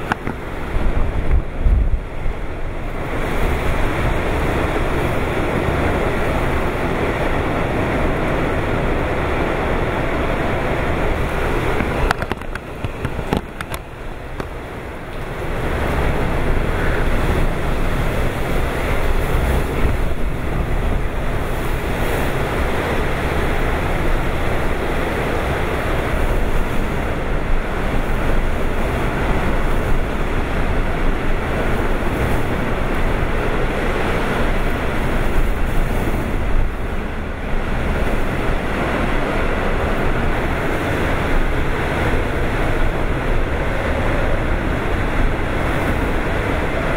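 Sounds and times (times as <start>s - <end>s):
driving rain: 0.0s - 46.9s
strong wind rushing: 0.0s - 46.9s
wind buffeting microphone: 0.0s - 46.9s.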